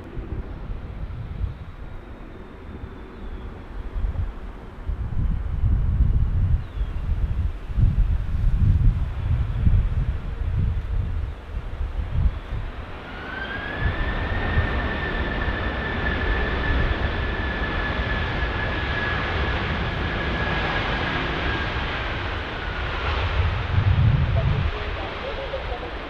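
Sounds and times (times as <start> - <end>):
jet engines whining: 0.0 - 5.4, 9.6 - 26.0
wind rumbling on microphone: 0.0 - 26.0.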